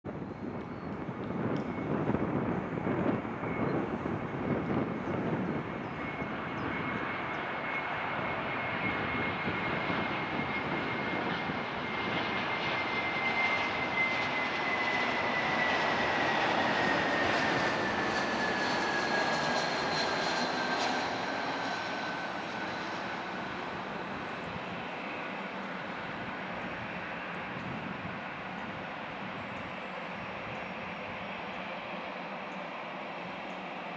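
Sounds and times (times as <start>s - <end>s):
jet engines roaring: 0.2s - 33.9s.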